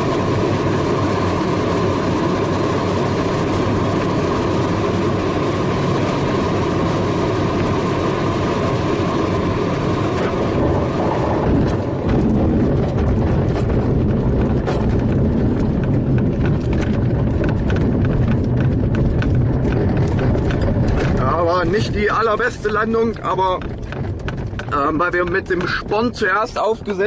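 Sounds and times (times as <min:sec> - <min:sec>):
airflow rushing past cockpit: 0:00.0 - 0:27.0
landing gear rattling rumble: 0:00.0 - 0:27.0.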